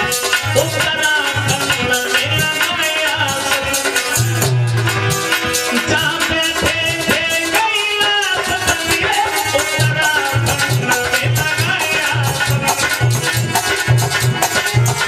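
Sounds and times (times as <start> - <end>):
hand drum beat: 0.0 - 15.0
harmonium melody: 0.0 - 15.0.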